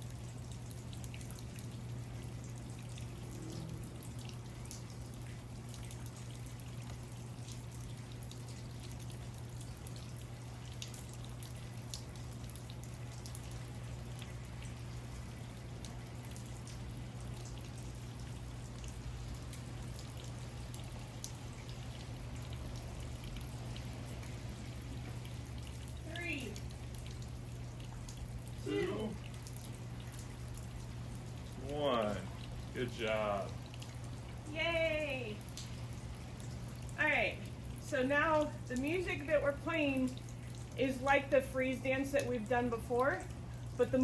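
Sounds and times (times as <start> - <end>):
low hum and hiss: 0.0 - 44.0.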